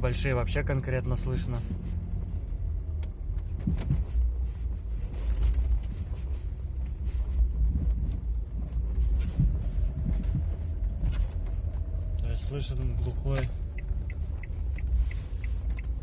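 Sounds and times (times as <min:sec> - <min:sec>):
car road rumble: 0:00.0 - 0:16.0.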